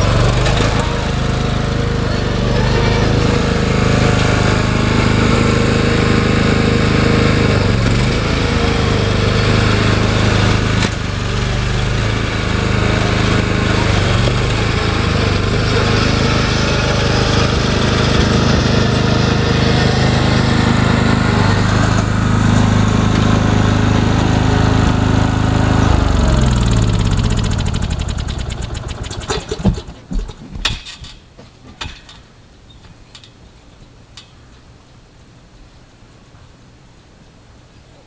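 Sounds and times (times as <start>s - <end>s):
lawn mower engine running: 0.0s - 30.6s.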